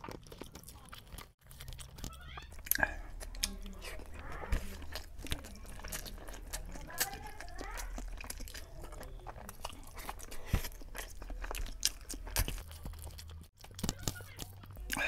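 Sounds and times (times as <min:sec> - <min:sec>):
chewing food: 0:00.0 - 0:15.0
fingers squishing rice: 0:00.0 - 0:15.0.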